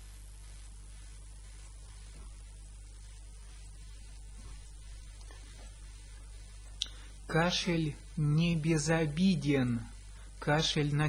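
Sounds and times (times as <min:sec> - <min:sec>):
low mains hum: 0:00.0 - 0:11.0
steady hiss: 0:00.0 - 0:11.0.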